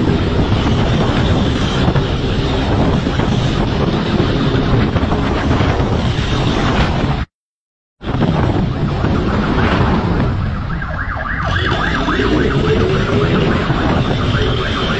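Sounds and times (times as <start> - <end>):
wind rushing over microphone: 0.0 - 7.3, 8.0 - 14.9.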